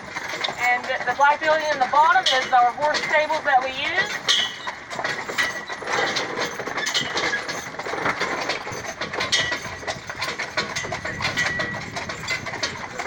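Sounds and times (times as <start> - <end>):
carriage wheels rattling: 0.0 - 13.0.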